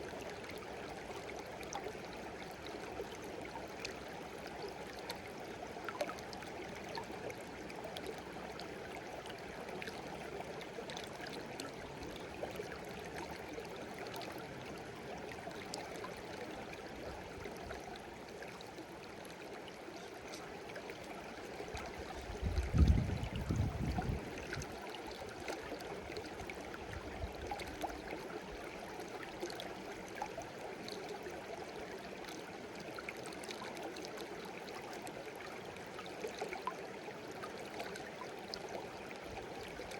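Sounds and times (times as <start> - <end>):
small water splashes: 0.0 - 39.9
stream babbling and trickling: 0.0 - 39.9.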